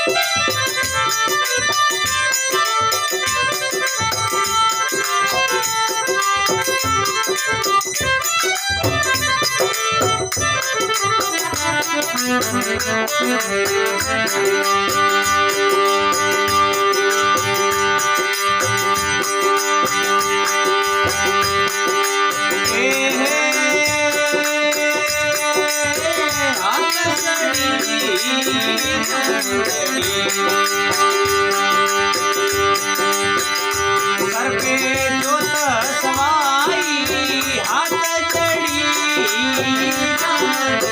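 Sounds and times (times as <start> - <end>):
hand drum rhythm: 0.0 - 40.9
harmonium-like melody: 0.0 - 40.9
rattle rhythm: 0.0 - 40.9.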